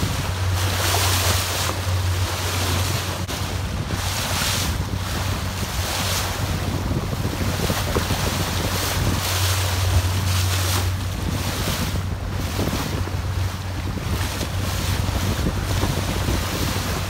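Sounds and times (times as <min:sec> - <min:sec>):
boat engine drone: 0:00.0 - 0:17.0
water rushing along hull: 0:00.0 - 0:17.0
wind buffeting microphone: 0:00.0 - 0:17.0.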